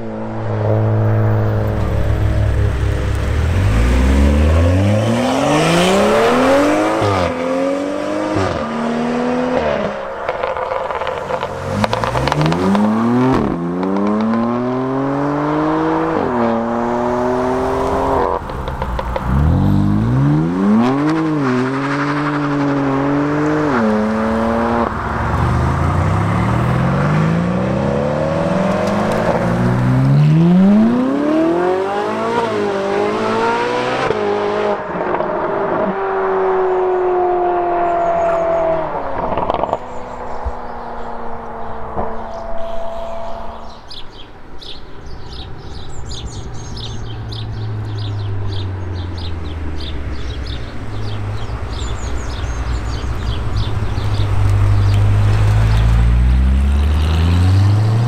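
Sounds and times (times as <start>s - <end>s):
car engine accelerating hard: 0.0s - 44.0s, 45.3s - 58.0s.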